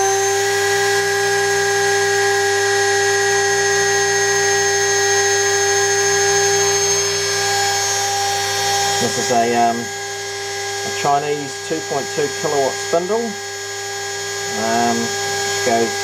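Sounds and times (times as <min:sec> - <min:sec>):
spindle motor whining: 0:00.0 - 0:16.0.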